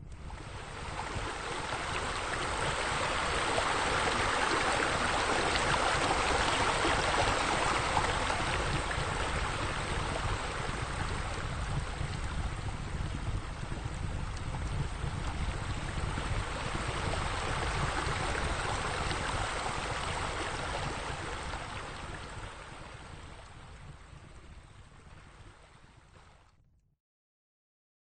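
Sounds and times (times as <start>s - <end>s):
steady low rumble: 0.0s - 25.5s
fountain water splashing into basin: 0.2s - 23.7s.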